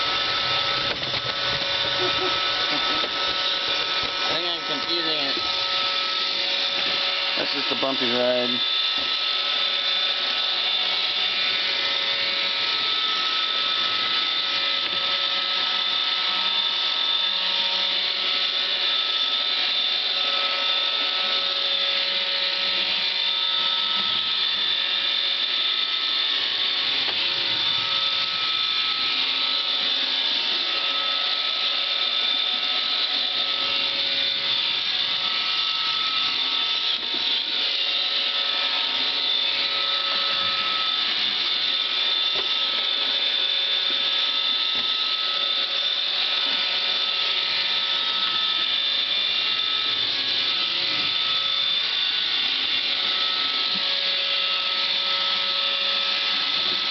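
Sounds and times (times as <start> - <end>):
high tone of robot vacuum: 0.0 - 56.9
robot vacuum whirring: 0.0 - 56.9.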